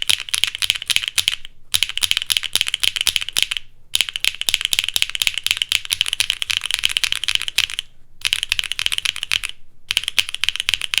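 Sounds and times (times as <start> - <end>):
fast typing on mechanical keyboard: 0.0 - 11.0.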